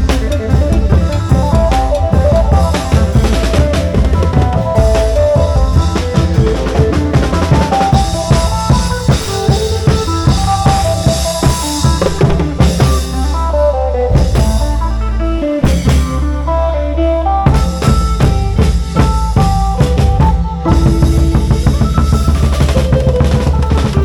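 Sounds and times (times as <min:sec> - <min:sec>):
long drums beating a busy rhythm: 0:00.0 - 0:24.0
melody of short stepped notes: 0:00.0 - 0:24.0.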